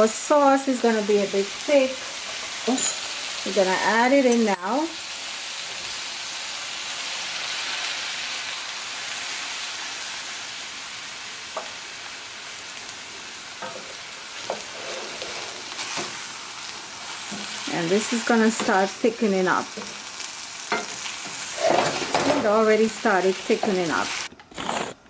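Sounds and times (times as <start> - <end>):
vegetables sizzling in skillet: 0.0 - 24.3.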